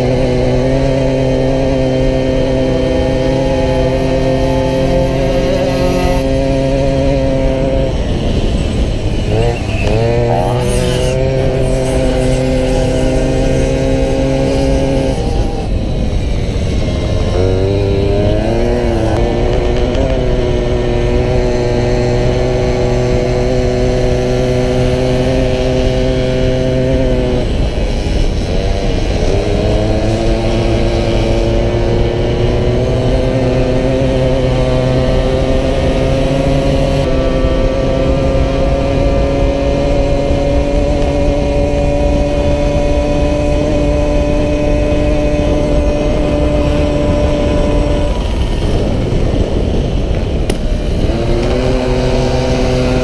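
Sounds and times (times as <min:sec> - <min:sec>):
low wind rush: 0:00.0 - 0:53.0
moped two-stroke engine revving: 0:00.0 - 0:53.0.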